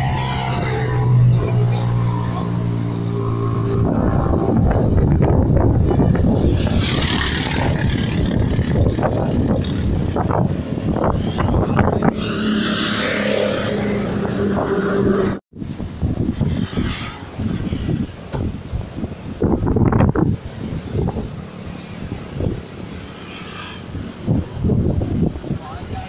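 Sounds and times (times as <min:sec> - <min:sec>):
passing traffic: 0:00.0 - 0:26.0
wind buffeting microphone: 0:00.0 - 0:26.0.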